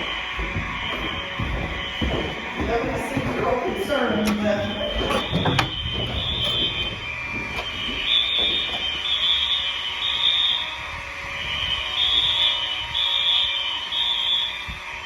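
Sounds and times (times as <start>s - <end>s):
fire alarm horns: 0.0s - 15.0s.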